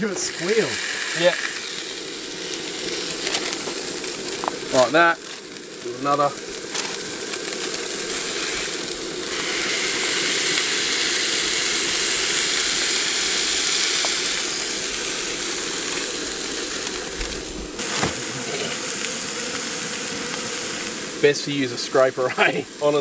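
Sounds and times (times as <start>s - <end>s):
burger patties sizzling in pan: 0.0s - 23.0s.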